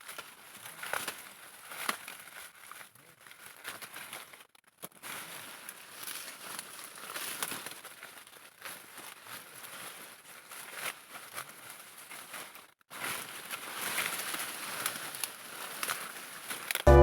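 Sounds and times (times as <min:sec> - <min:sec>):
dry corn plants rustling: 0:00.0 - 0:17.0.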